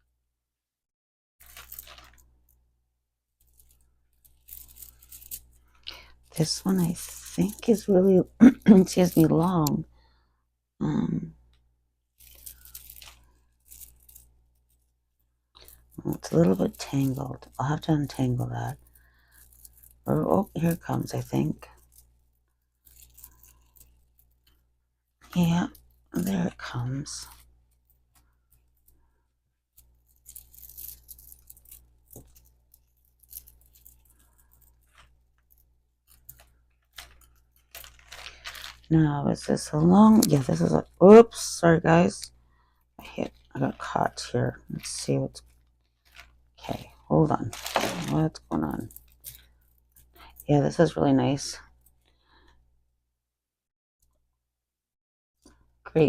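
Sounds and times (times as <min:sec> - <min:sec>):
necklace crinkly rustling: 0:01.4 - 0:02.6, 0:03.3 - 0:09.9, 0:11.5 - 0:50.9, 0:51.6 - 0:52.6.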